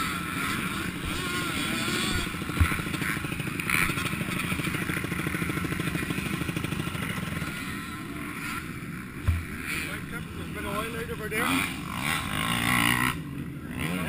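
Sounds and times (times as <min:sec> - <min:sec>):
motocross bike engine running: 0:00.0 - 0:14.0.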